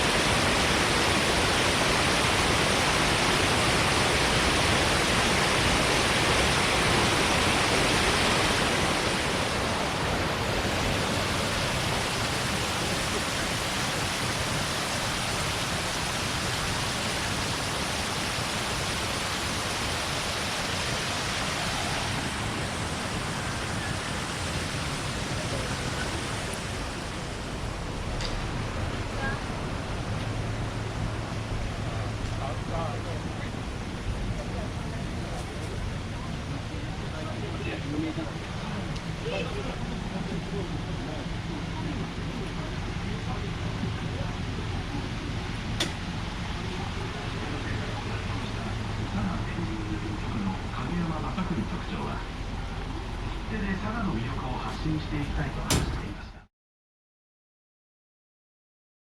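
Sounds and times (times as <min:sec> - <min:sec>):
waterfall rushing: 0:00.0 - 0:53.8.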